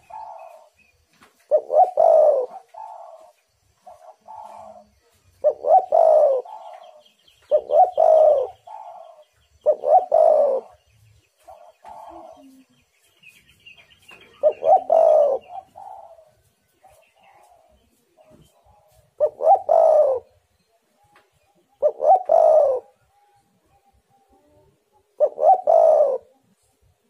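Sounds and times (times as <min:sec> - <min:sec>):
dove cooing: 0:00.0 - 0:00.8, 0:01.4 - 0:12.8, 0:14.1 - 0:20.4, 0:21.7 - 0:26.6
faint high chirping: 0:00.0 - 0:26.9.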